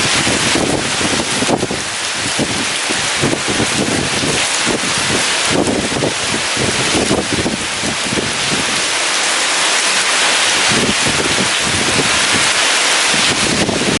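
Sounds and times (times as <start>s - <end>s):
wind buffeting microphone: 0.0s - 9.2s, 9.8s - 14.0s
heavy rain hissing: 0.0s - 14.0s.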